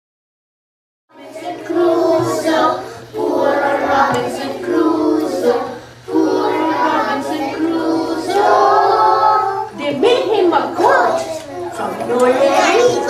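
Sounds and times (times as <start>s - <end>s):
children singing together: 1.1s - 13.0s.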